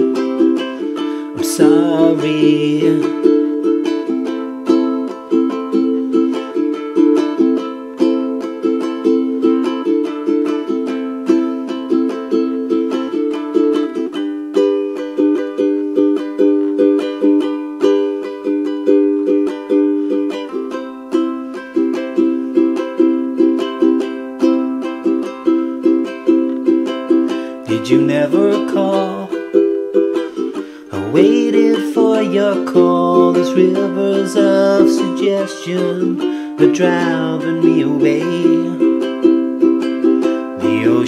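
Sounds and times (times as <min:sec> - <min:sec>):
ukulele strumming: 0:00.0 - 0:41.0.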